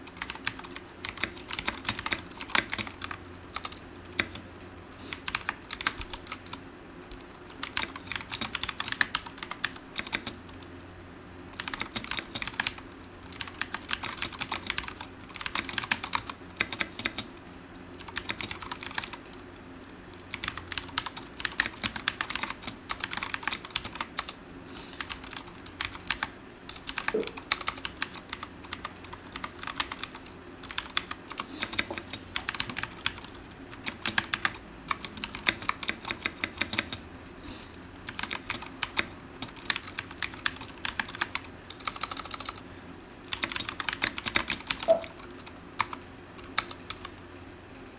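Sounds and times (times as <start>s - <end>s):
mechanical keyboard typing: 0.0s - 4.4s, 5.1s - 6.6s, 7.5s - 10.6s, 11.6s - 17.3s, 18.0s - 19.4s, 20.2s - 24.4s, 25.0s - 37.0s, 38.0s - 42.6s, 43.3s - 47.2s.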